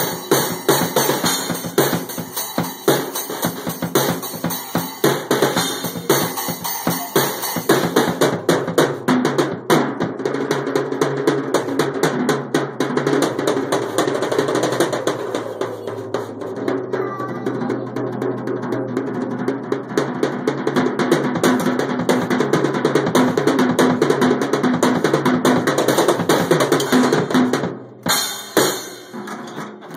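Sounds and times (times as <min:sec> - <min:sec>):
child's drum kit played: 0:00.0 - 0:29.9.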